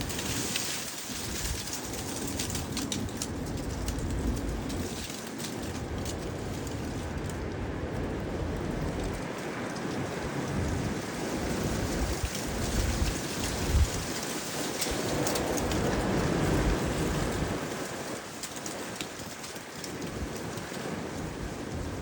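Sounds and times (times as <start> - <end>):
wind gusts buffeting microphone: 0.0 - 22.0.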